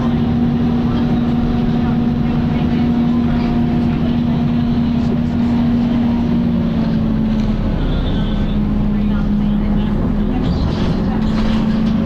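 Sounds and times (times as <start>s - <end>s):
bus cooling fan drone: 0.0s - 12.0s
bus engine hum and rumble: 0.0s - 12.0s.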